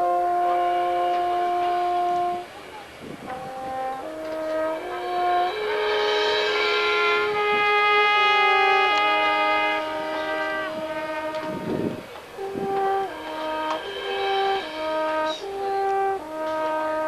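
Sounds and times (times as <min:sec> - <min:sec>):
marching band brass chords: 0:00.0 - 0:17.0.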